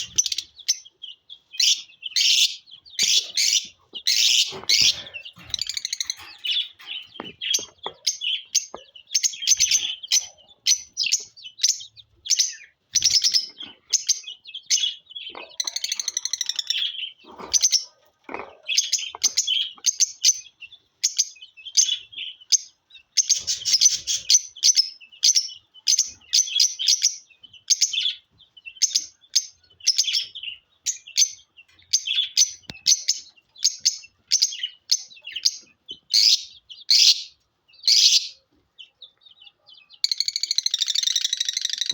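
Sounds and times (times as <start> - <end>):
lovebirds chirping: 0.0 - 41.9.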